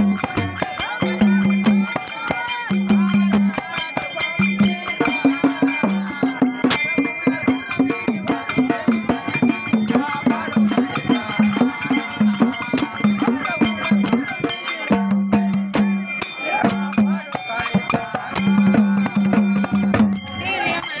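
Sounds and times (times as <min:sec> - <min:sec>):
barrel drum beaten by hand: 0:00.0 - 0:20.9
brass hand cymbals ringing: 0:00.0 - 0:21.0.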